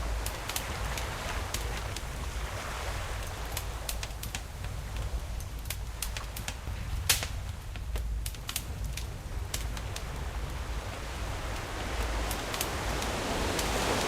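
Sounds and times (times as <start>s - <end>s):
ocean waves rumbling: 0.0s - 14.0s
wood fire crackling and popping: 0.0s - 14.0s.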